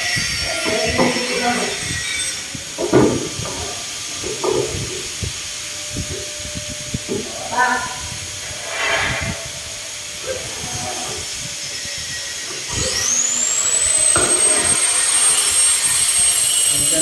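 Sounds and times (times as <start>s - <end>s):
power tool motor whine: 0.0s - 17.0s.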